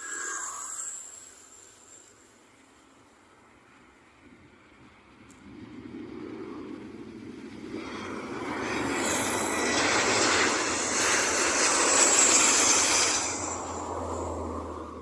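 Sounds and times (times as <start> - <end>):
airliner jet engines hissing: 0.0 - 15.0.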